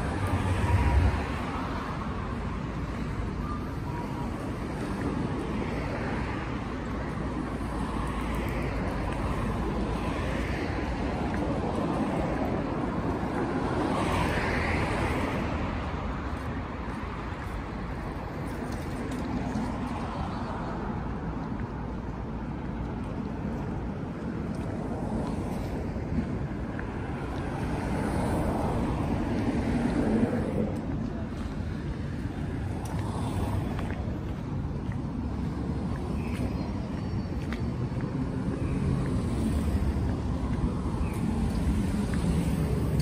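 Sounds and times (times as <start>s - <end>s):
road traffic noise: 0.0s - 43.0s.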